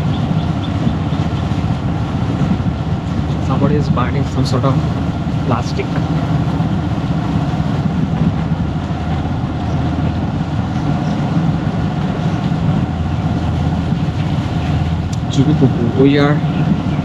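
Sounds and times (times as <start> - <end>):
motorcycle engine running: 0.0 - 17.0
road and air noise: 0.0 - 17.0.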